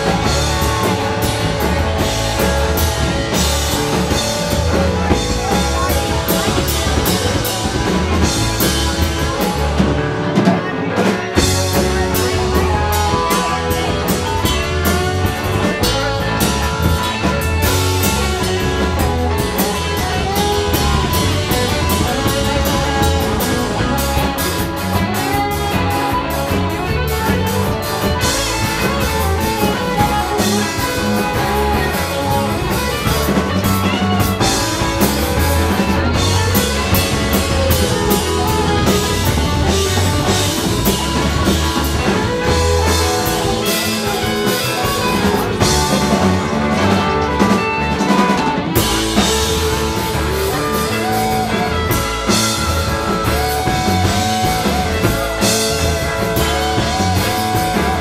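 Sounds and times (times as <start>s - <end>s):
live rock band: 0.0s - 58.0s.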